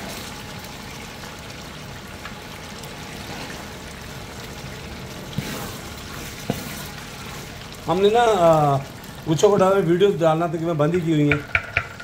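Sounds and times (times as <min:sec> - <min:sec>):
pot bubbling and simmering: 0:00.0 - 0:12.0.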